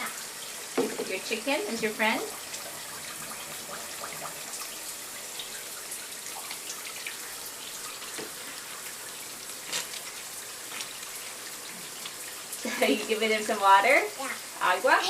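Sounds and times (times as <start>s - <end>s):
shower water running: 0.0s - 15.0s
water splashes and drips: 0.0s - 15.0s.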